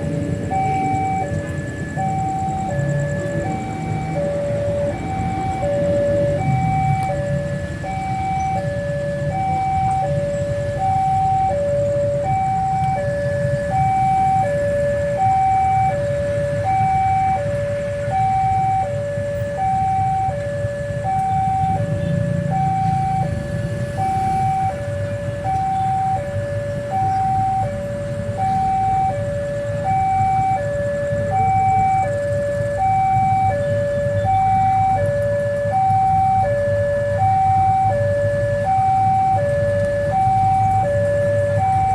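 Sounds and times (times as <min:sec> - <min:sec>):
level crossing two-tone alarm: 0:00.0 - 0:41.9
vehicle engines rumbling: 0:00.0 - 0:41.9.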